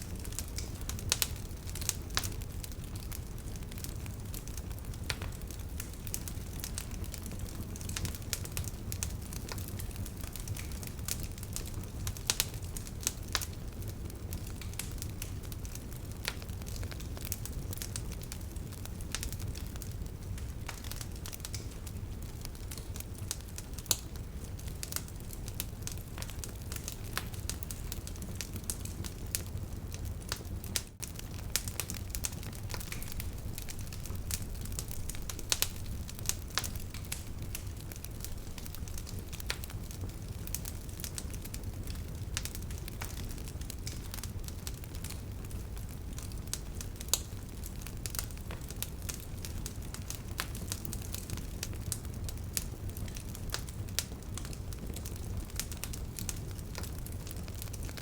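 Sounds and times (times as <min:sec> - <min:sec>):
low rumble of burning fire: 0:00.0 - 0:58.0
wood bonfire crackling and popping: 0:00.0 - 0:58.0.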